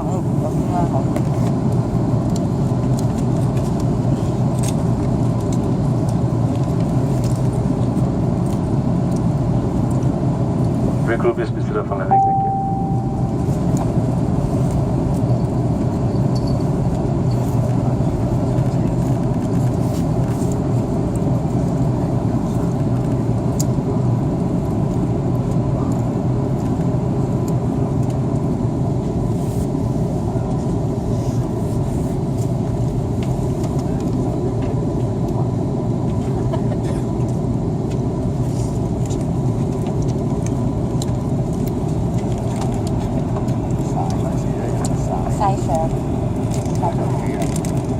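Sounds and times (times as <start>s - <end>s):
airplane cabin engine drone: 0.0s - 47.9s.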